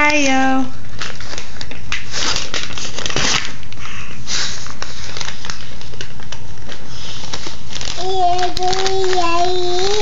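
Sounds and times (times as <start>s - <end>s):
paper rustling and crinkling: 0.7s - 10.0s.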